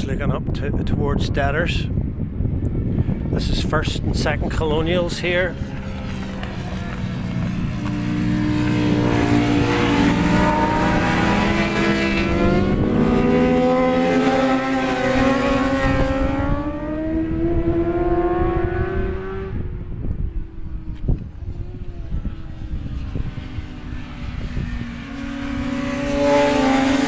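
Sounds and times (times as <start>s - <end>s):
racing motorcycle passing at speed: 2.0s - 27.0s.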